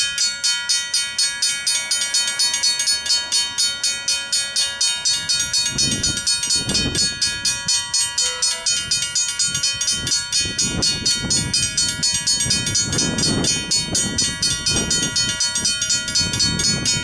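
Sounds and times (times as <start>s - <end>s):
level-crossing bells ringing: 0.0s - 17.0s.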